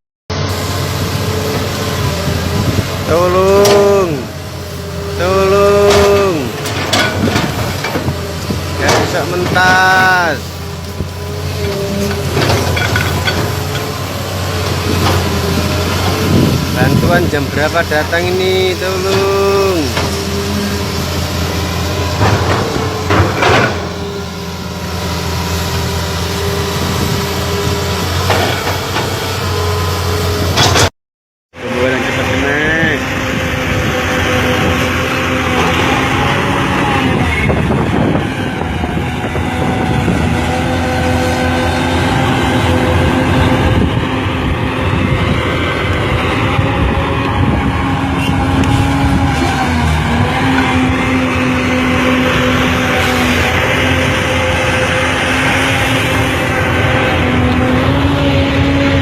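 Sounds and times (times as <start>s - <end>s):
excavator diesel engine running: 0.3s - 30.9s, 31.6s - 59.0s.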